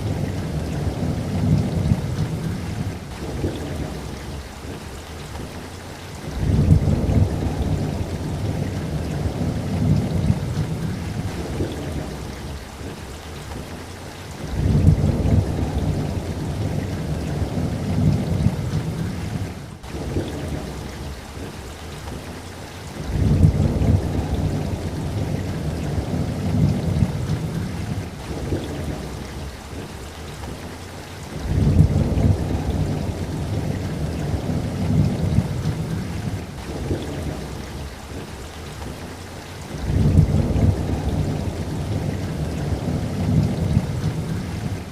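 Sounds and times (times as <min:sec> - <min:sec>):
rolling thunder: 0:00.0 - 0:04.9, 0:06.3 - 0:13.0, 0:14.4 - 0:21.6, 0:23.0 - 0:29.9, 0:31.4 - 0:38.4, 0:39.7 - 0:44.9
steady rain: 0:00.0 - 0:44.9.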